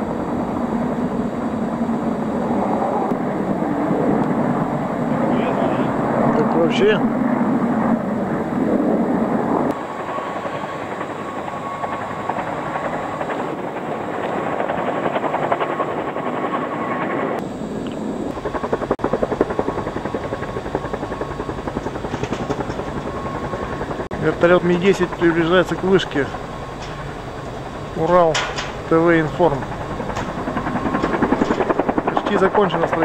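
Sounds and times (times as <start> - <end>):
distant helicopter in flight: 0.0 - 33.0
rotor blades beating: 0.0 - 33.0.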